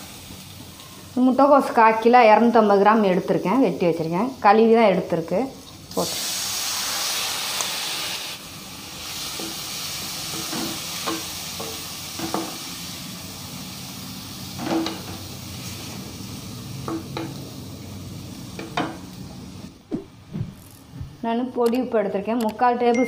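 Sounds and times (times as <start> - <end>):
cabbage sizzling in hot oil: 0.0 - 19.7.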